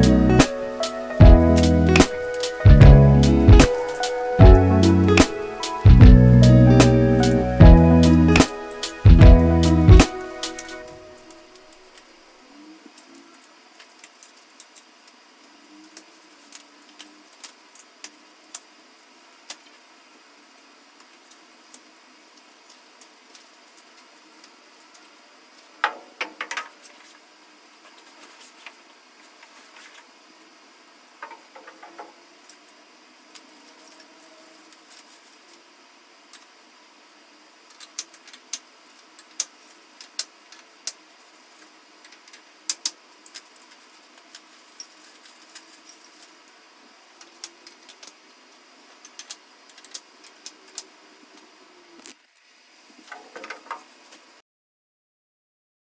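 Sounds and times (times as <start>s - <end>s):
faint steady hiss: 0.0s - 54.4s.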